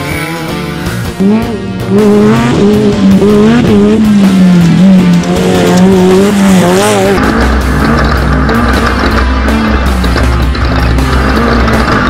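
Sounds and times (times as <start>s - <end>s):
music soundtrack: 0.0s - 12.0s
race buggy engine revving: 0.0s - 12.0s.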